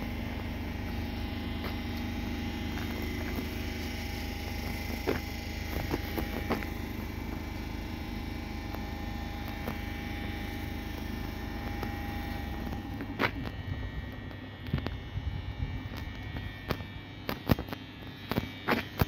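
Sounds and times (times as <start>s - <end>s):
electric train hum: 0.0s - 19.0s
faint steady whine: 0.0s - 19.0s.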